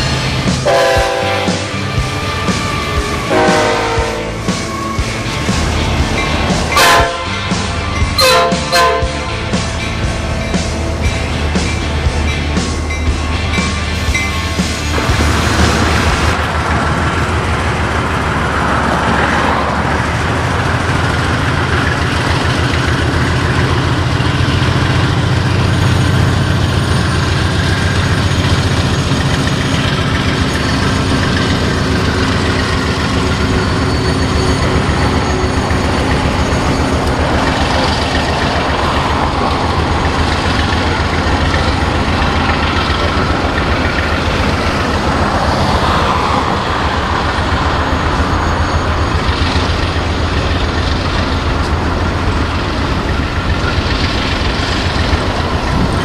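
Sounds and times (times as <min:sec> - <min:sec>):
freight cars rumbling on rails: 0:00.0 - 0:56.0
locomotive engine hum: 0:00.0 - 0:56.0.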